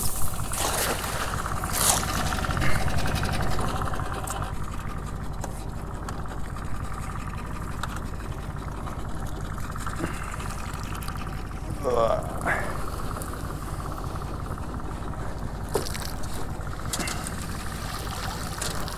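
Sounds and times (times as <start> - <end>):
boat motor idling: 0.0 - 18.9.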